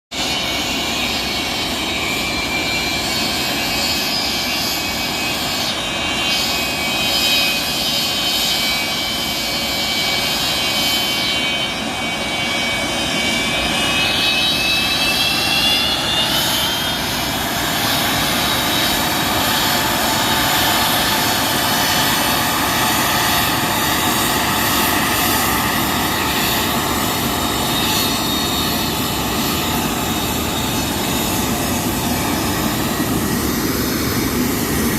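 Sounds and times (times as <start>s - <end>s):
jet engines rushing: 0.1s - 34.9s
high engine whine: 0.2s - 34.9s.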